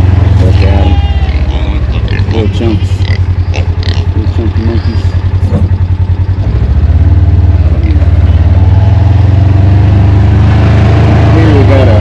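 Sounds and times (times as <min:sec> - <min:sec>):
utility vehicle engine droning: 0:00.0 - 0:12.0.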